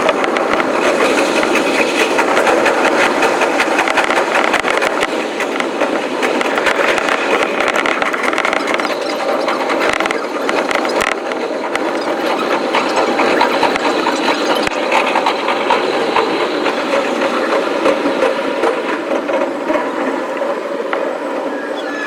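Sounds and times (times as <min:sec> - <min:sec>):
clicks from the rails: 0:00.0 - 0:21.1
electric train rattling: 0:00.0 - 0:22.0.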